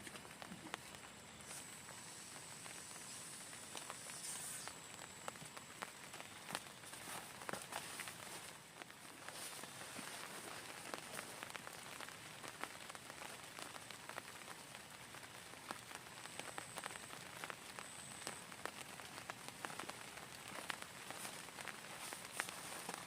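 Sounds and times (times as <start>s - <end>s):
raindrops tapping a surface: 0.0s - 23.0s
steady rain hiss: 0.0s - 23.0s.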